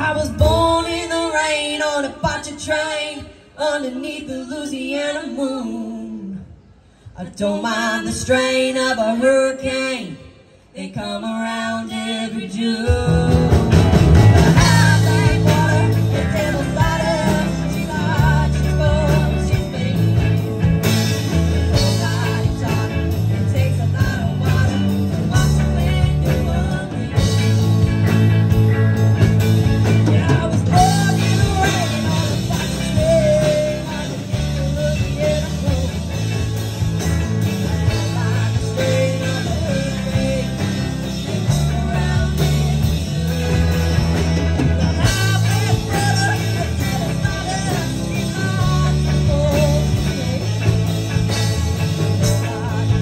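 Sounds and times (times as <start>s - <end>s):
live rock band playing: 0.0s - 3.0s, 11.9s - 53.0s
woman singing through pa: 0.0s - 6.6s, 7.2s - 21.0s, 21.7s - 27.7s, 29.9s - 36.4s, 37.6s - 44.2s, 44.8s - 51.3s.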